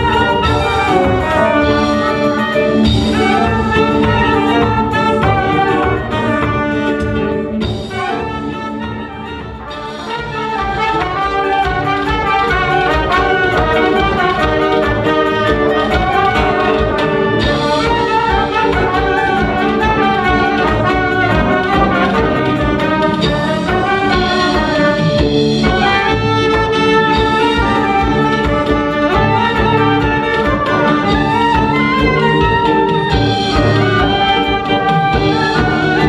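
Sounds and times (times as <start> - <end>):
brass band playing: 0.0 - 36.0.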